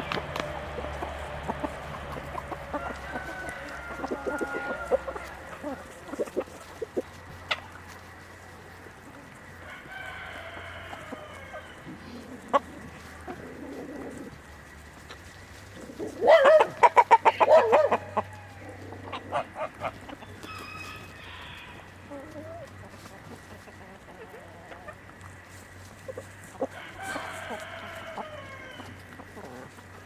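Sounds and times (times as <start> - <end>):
chicken cackling: 0.0 - 30.0
chickens clucking: 0.0 - 30.0.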